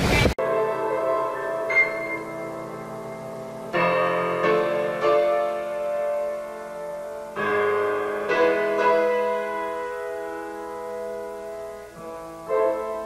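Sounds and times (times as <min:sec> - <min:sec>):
piano chords ringing: 0:00.4 - 0:13.0.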